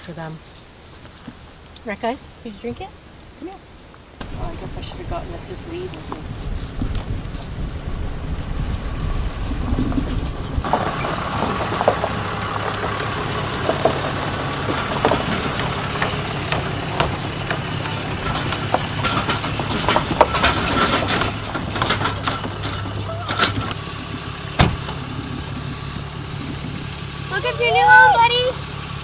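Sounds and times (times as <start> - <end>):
vehicle engine idling: 0.0 - 29.0
horse hooves on trailer floor: 4.2 - 29.0.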